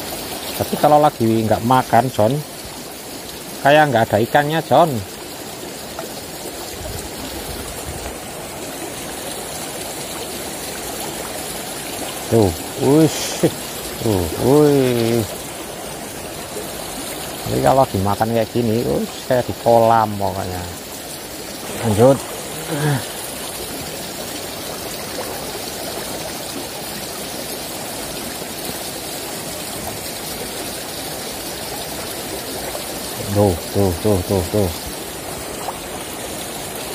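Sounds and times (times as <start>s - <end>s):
river flowing: 0.0s - 36.9s
water rushing over stones: 0.0s - 36.9s.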